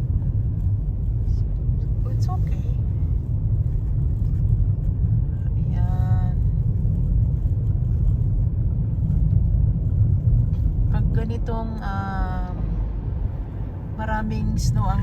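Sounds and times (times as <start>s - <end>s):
car rumble on snowy road: 0.0s - 15.0s.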